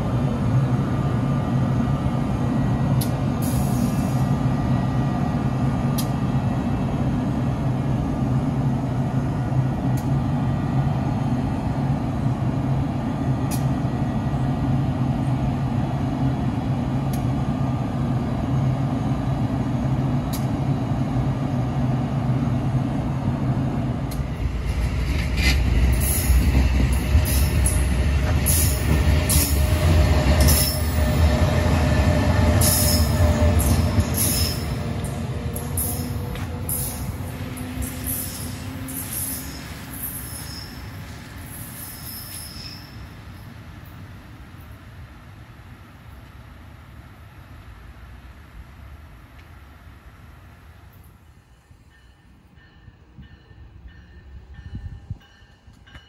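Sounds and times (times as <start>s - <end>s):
electric locomotive humming: 0.0s - 56.0s
passenger train rushing past: 0.0s - 56.0s.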